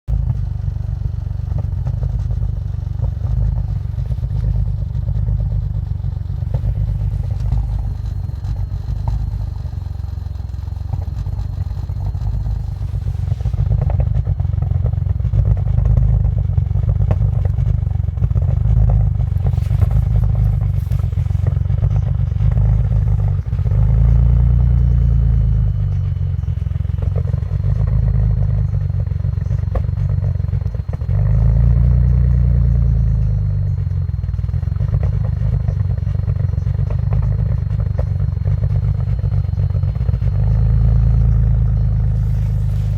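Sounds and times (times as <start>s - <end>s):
car engine idling roughly: 0.1s - 42.9s.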